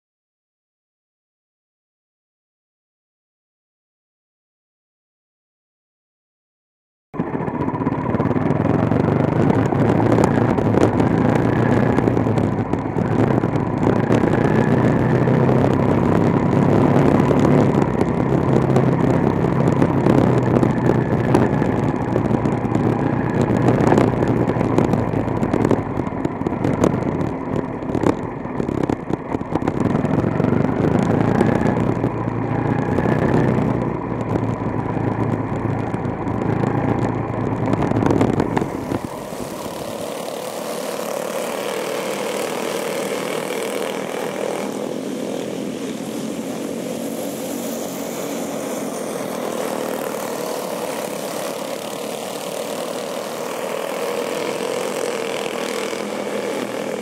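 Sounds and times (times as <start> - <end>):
small race car engine running: 7.2 - 57.0.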